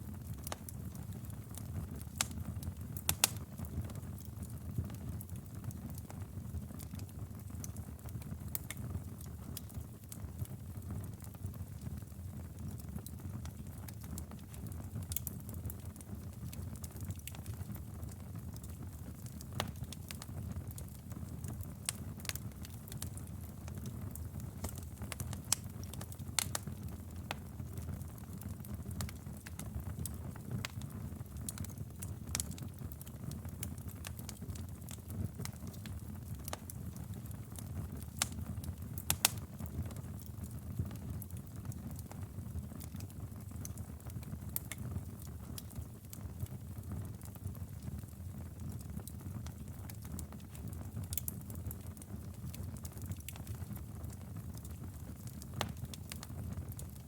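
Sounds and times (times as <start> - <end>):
fire crackles and pops: 0.0 - 57.0
wood fire burning: 0.0 - 57.0.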